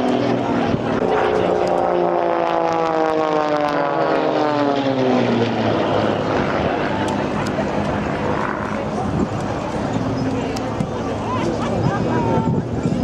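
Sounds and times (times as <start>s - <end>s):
propeller planes passing: 0.0s - 13.0s.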